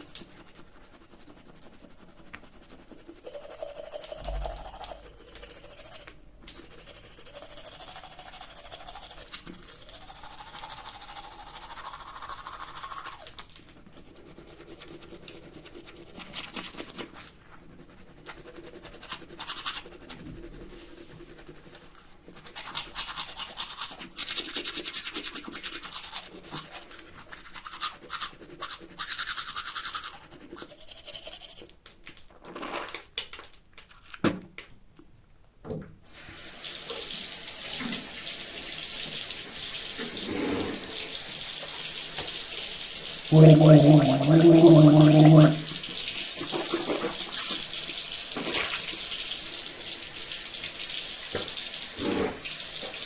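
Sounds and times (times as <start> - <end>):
toothbrush scrubbing teeth: 0.0 - 31.9, 36.9 - 53.0.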